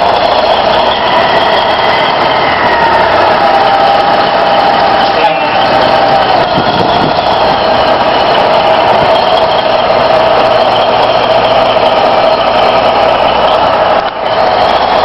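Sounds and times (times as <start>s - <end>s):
steady whine: 0.0s - 15.0s
truck engine running: 0.0s - 15.0s.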